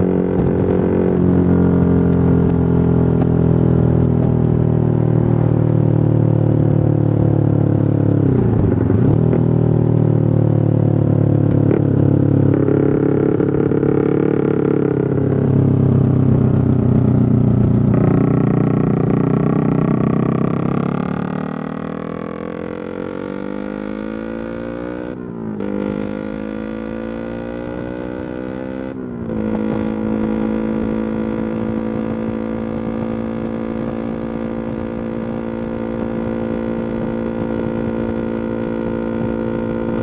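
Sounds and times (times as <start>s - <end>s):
road and wind noise: 0.0s - 40.0s
vehicle engine accelerating: 0.0s - 40.0s.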